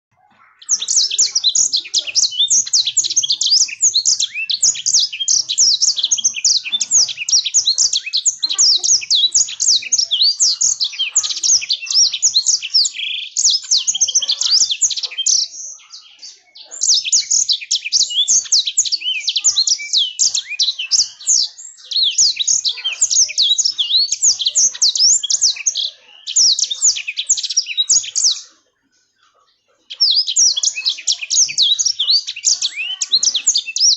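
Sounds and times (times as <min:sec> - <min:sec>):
bird twittering song: 0:00.1 - 0:33.9.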